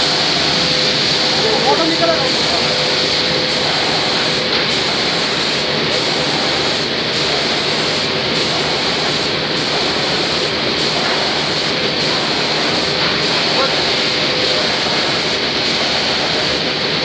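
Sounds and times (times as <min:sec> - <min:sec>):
spraying machine hissing: 0:00.0 - 0:17.0.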